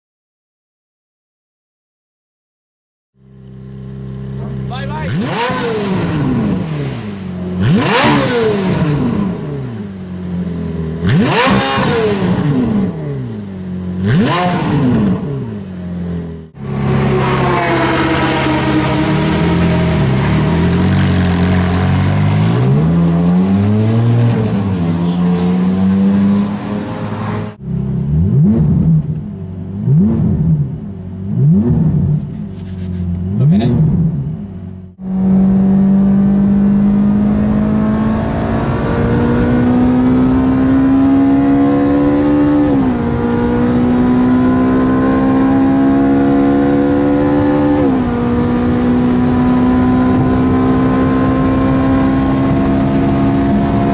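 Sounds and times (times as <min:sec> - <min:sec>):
sports car engine revving: 0:03.2 - 0:53.9.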